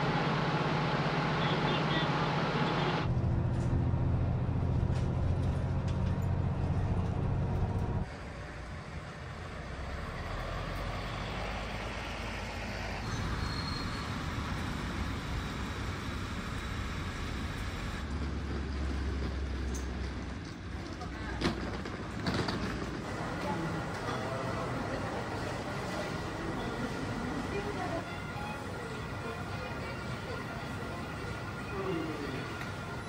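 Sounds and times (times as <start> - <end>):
bus engine humming: 0.0 - 33.0
bus pulling past: 0.0 - 33.0
street traffic noise: 0.0 - 33.0.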